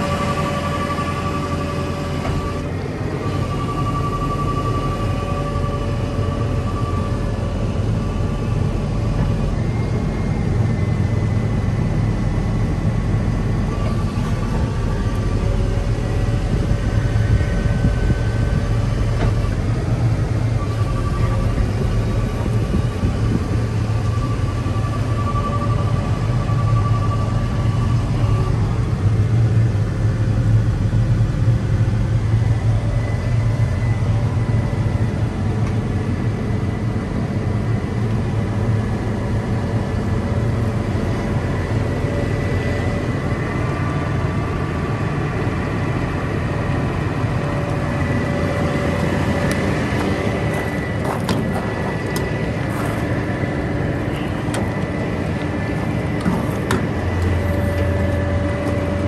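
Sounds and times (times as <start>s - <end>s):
diesel truck idling: 0.0s - 59.0s.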